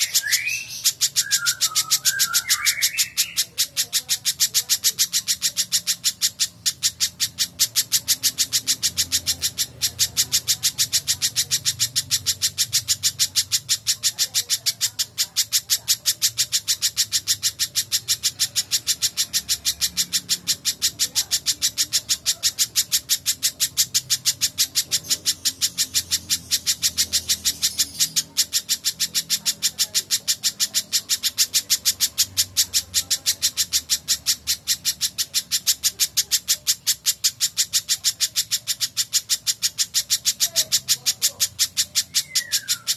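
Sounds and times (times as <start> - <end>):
bird calling sharp chip notes: 0.0 - 42.9.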